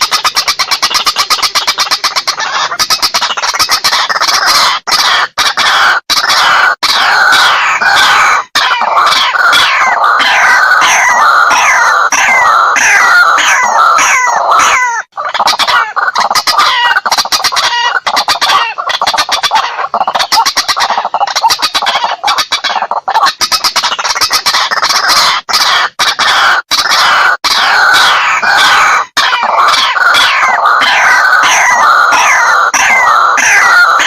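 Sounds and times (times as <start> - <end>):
waterhens croaking calls: 0.0 - 34.0.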